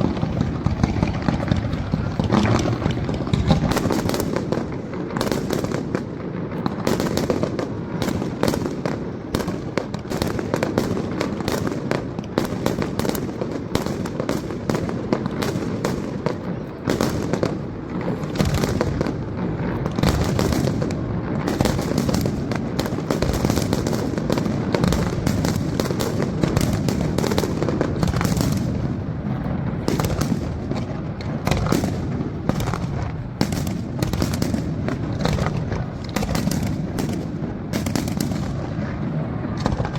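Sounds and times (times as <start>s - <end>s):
fireworks cracks and bangs: 0.0s - 39.9s.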